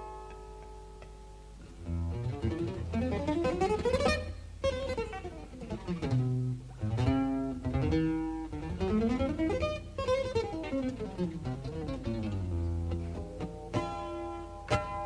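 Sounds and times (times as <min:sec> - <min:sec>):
acoustic jazz guitar: 0:00.0 - 0:15.0.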